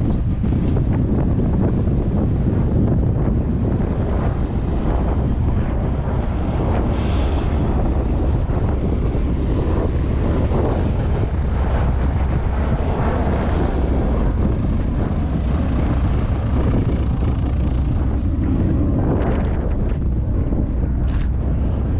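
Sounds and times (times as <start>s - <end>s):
aircraft engine noise: 0.0s - 21.9s
wind noise on microphone: 0.0s - 21.9s.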